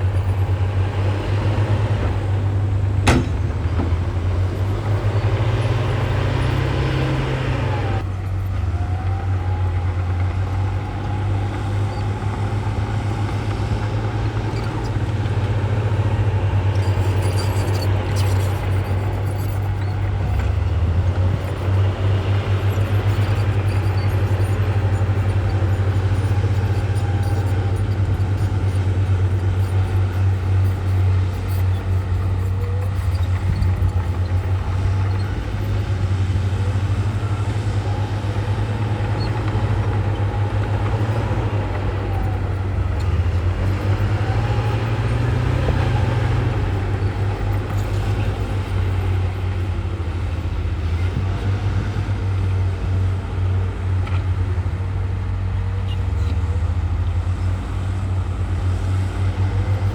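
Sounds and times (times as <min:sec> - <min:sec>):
faint squealing tones: 0:00.0 - 0:09.8, 0:10.8 - 0:51.5
heavy diesel engines running: 0:00.0 - 0:59.9.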